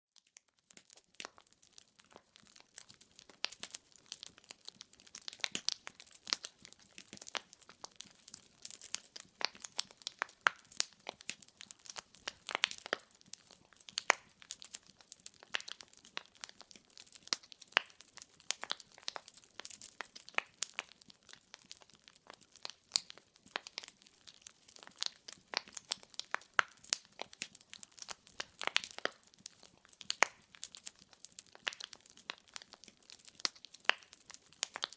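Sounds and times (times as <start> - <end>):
firewood crackling and popping: 0.2 - 34.9
faint hiss of burning: 0.7 - 34.9.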